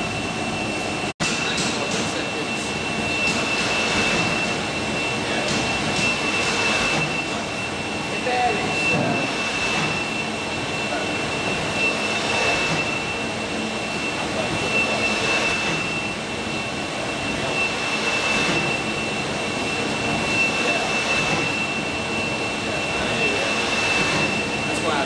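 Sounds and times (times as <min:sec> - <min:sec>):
thin high whine: 0:00.0 - 0:25.0.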